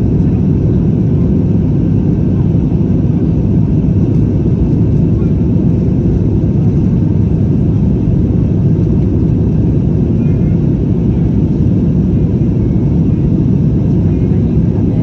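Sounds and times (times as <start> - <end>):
jet cabin rumble: 0.0 - 15.0.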